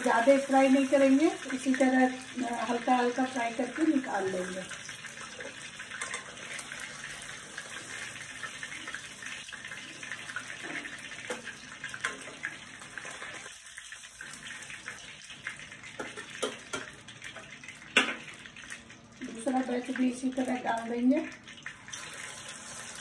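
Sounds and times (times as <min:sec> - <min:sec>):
fish sizzling in oil: 0:00.0 - 0:23.0.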